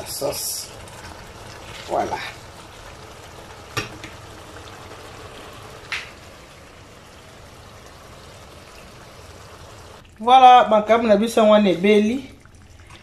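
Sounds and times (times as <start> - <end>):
sauce bubbling in a frying pan: 0.0 - 11.0, 12.0 - 13.0.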